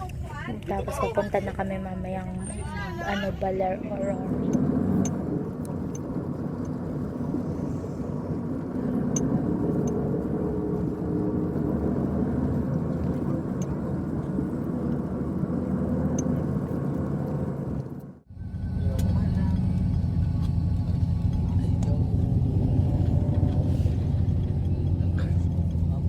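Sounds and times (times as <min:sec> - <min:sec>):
vehicle engine rumble inside cabin: 0:01.8 - 0:26.0.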